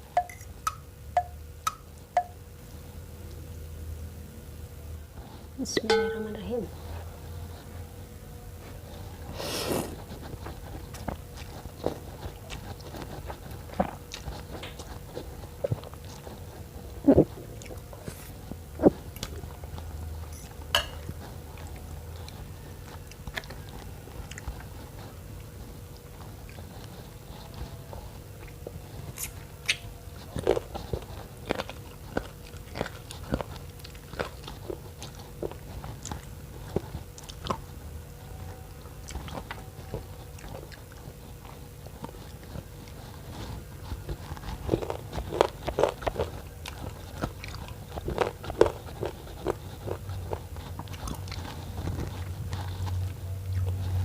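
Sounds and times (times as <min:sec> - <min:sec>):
steady low hum: 0:00.0 - 0:54.0
person chewing and biting: 0:09.2 - 0:54.0.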